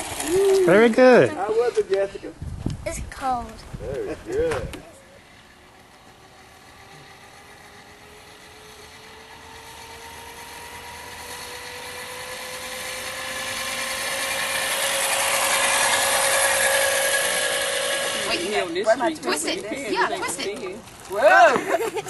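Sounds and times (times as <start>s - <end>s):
electric scooter motor whining: 0.0s - 2.1s, 4.0s - 21.4s.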